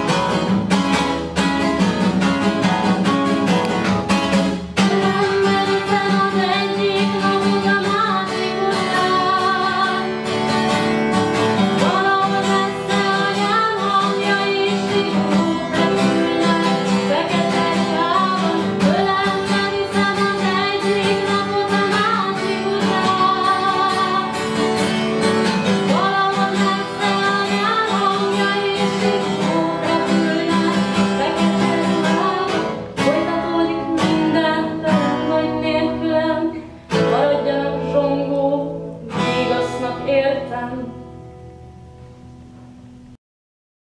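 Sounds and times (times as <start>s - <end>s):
acoustic guitar strumming: 0.0s - 43.2s
woman singing: 4.8s - 10.7s, 11.3s - 41.1s.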